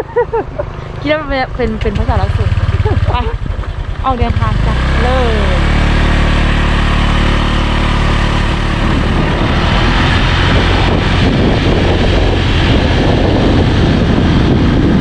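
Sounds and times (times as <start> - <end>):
small motorcycle engine running: 0.0 - 15.0
wind noise on microphone: 0.0 - 15.0.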